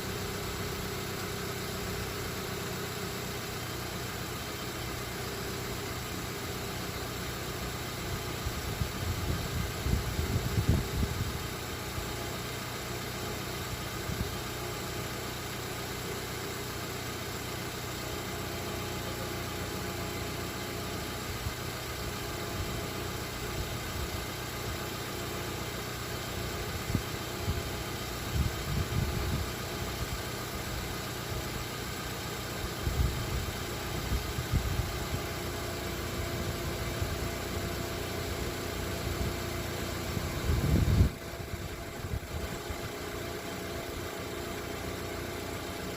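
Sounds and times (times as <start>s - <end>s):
car engine running: 0.0s - 45.9s.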